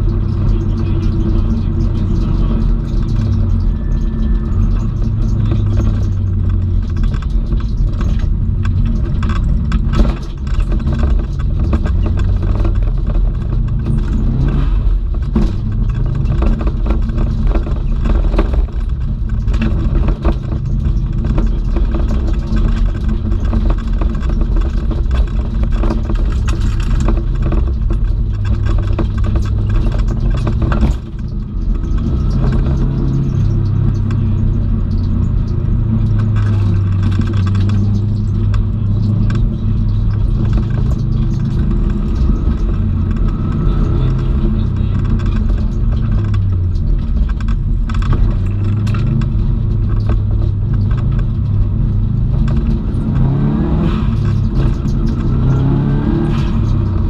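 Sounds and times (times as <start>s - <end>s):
car engine pulling hard: 0.0s - 57.0s
small clicks and rattles: 0.0s - 57.0s
tyre and road noise: 0.0s - 57.0s.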